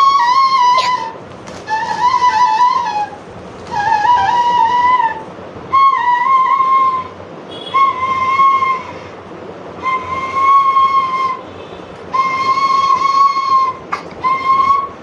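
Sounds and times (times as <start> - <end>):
bamboo flute long notes: 0.0 - 9.2, 9.8 - 15.0.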